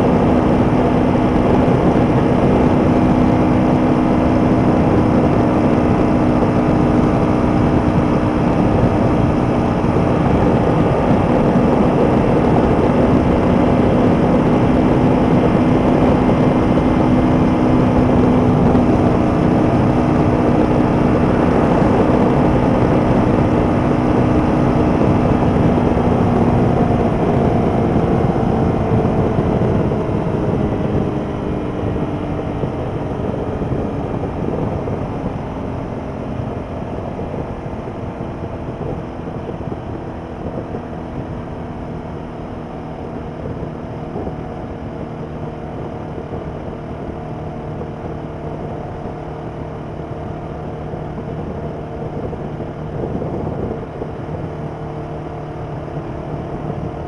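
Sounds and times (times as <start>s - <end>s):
motorcycle engine at high speed: 0.0s - 57.0s
wind and road noise: 0.0s - 57.0s.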